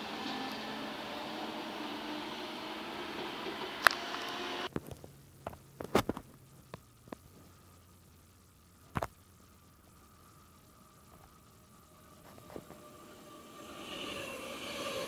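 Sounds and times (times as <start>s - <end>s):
faint steady hum: 0.0s - 15.0s
steady noise: 0.0s - 15.0s.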